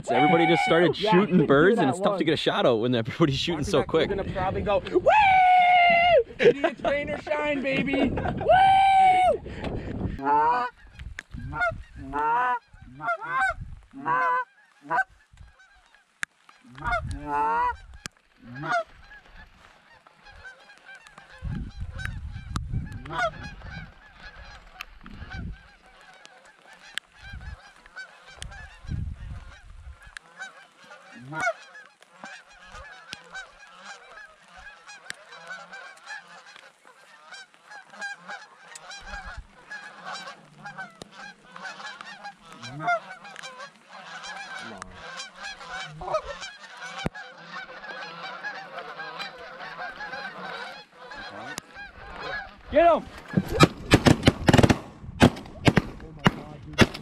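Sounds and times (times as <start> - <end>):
distant flock of geese calling: 0.0 - 2.2, 7.4 - 57.0
geese honking: 0.0 - 2.2, 5.1 - 54.8.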